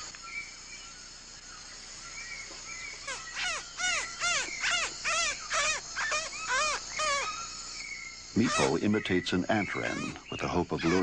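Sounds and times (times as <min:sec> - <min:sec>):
insects droning: 0:00.0 - 0:11.0
harsh cawing bird calls: 0:02.0 - 0:11.0.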